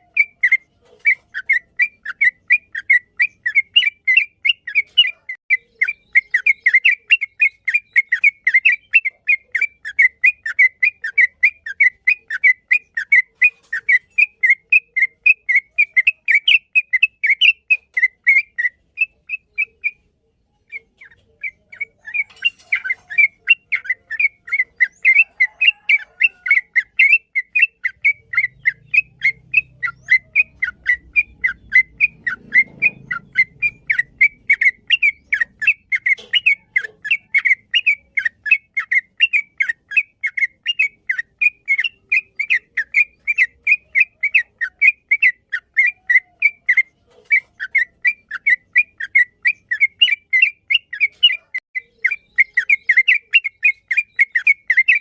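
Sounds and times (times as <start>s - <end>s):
bird singing rapid whistled notes: 0.0s - 55.0s.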